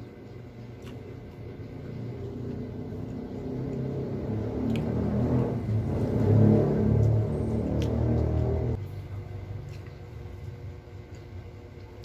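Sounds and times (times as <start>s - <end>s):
low motor rumble: 0.0s - 12.0s.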